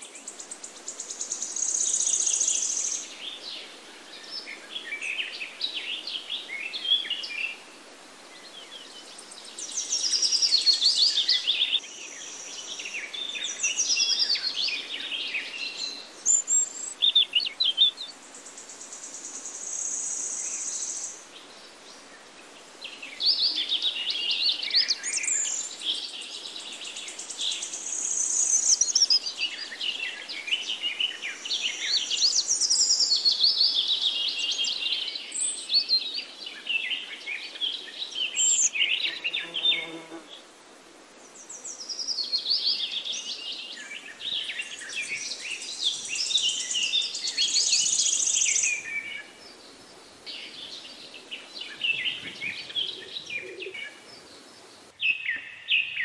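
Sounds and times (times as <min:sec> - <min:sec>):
birds singing and chirping: 0:08.4 - 0:21.2, 0:22.8 - 0:40.2, 0:41.4 - 0:56.0.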